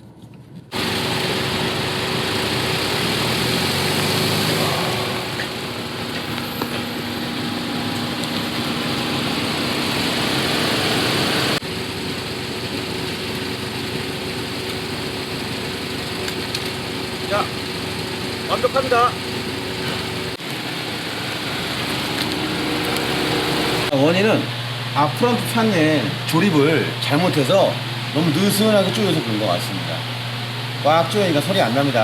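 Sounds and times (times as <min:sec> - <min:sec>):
car engine running: 0:00.7 - 0:32.0.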